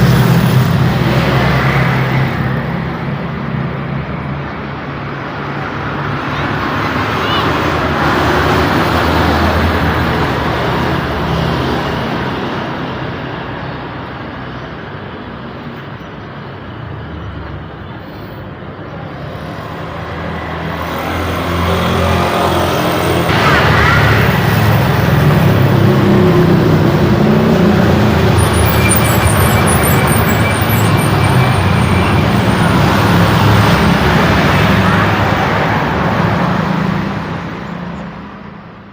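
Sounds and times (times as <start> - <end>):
heavy engine drone: 0.0 - 38.9
road traffic passing: 0.0 - 38.9.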